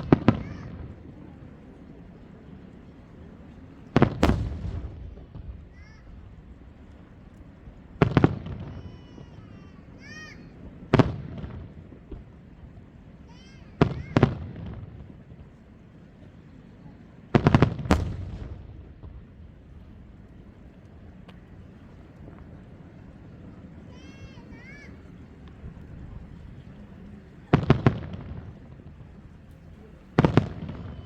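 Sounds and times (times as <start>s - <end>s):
fireworks bursting: 0.0s - 1.7s, 3.4s - 31.0s.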